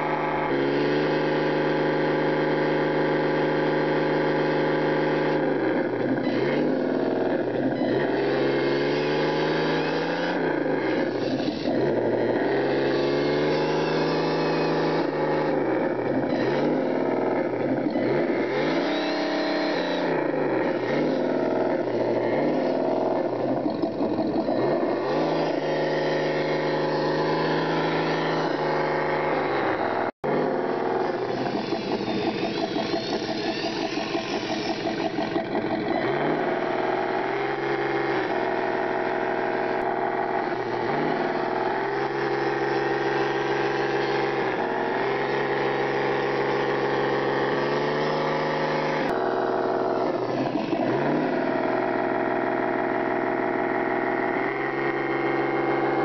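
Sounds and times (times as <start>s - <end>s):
toy car motor revving: 0.0s - 56.0s.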